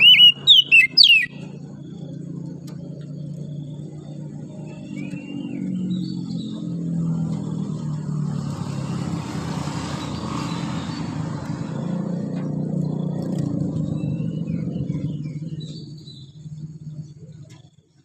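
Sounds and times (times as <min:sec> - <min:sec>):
road noise: 0:00.0 - 0:18.0
vehicle engine hum passing: 0:00.0 - 0:18.0.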